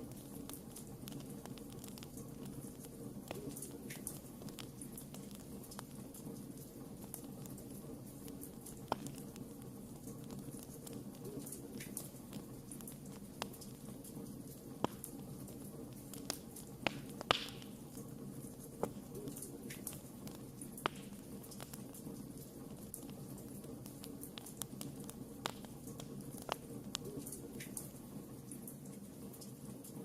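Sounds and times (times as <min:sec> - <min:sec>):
campfire crackling and popping: 0:00.0 - 0:29.5.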